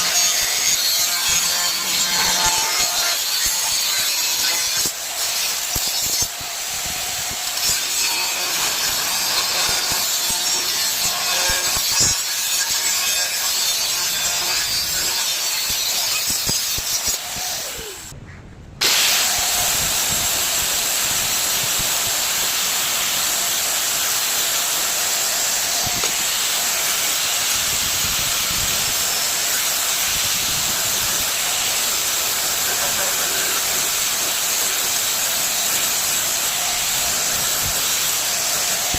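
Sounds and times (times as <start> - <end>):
welding arc crackling and hissing: 0.0 - 18.1, 18.8 - 38.9.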